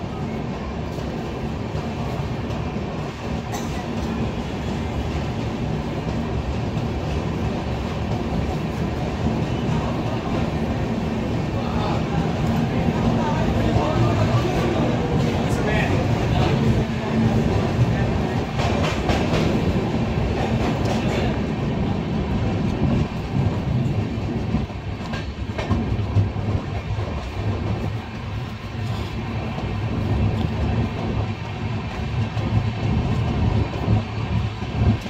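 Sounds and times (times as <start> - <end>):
rumble of wheels on rail: 0.0 - 35.0.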